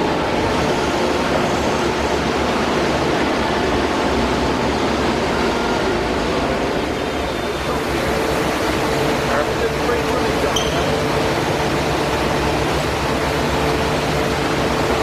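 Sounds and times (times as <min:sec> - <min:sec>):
forklift running: 0:00.0 - 0:15.0.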